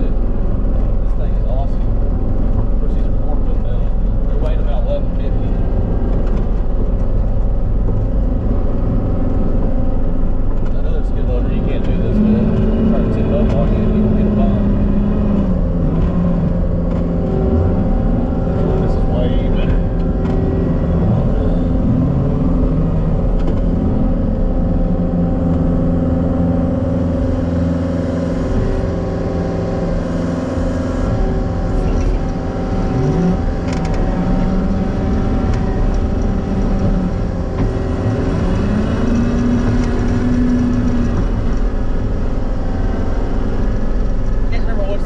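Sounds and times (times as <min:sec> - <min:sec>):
diesel engine revving: 0:00.0 - 0:45.0.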